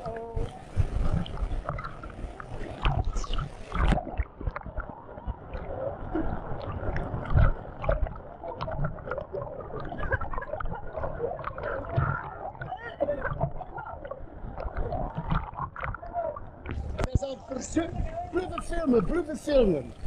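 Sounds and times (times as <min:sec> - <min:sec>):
water churning and splashing: 0:00.0 - 0:20.0.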